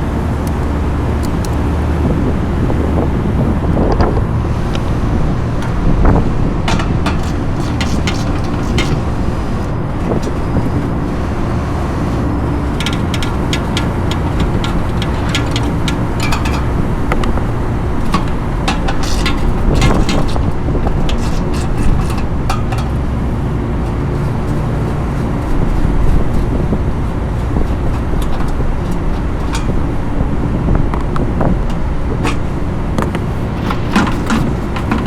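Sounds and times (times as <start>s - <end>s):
low mechanical rumble: 0.0s - 35.0s.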